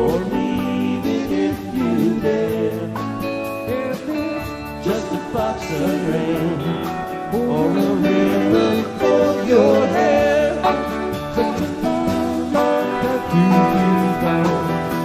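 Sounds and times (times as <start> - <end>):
bass guitar: 0.0 - 15.0.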